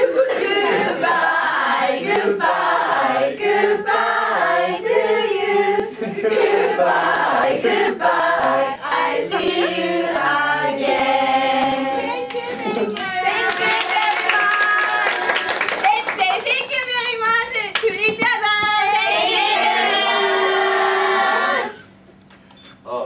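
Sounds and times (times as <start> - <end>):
young women singing together: 0.0 - 15.7, 16.7 - 22.0.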